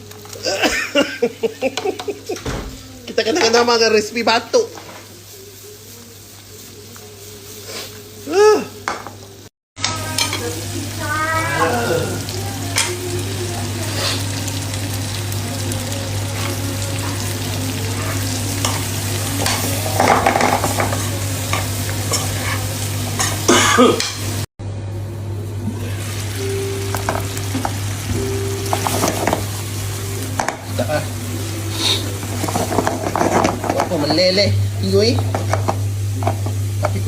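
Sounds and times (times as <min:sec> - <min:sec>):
beef sizzling in a pan: 0:00.0 - 0:24.5, 0:25.4 - 0:37.0.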